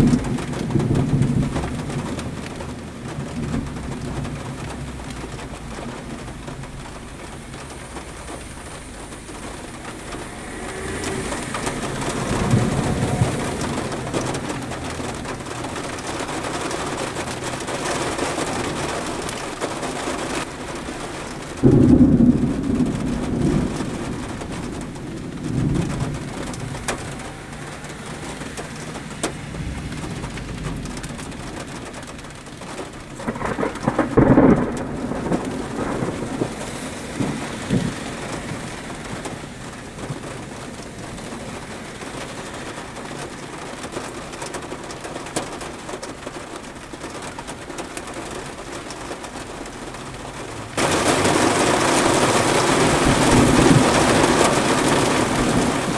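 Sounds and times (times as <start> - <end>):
rain patter on car: 0.0 - 55.9
thunder rumbling: 0.0 - 55.9.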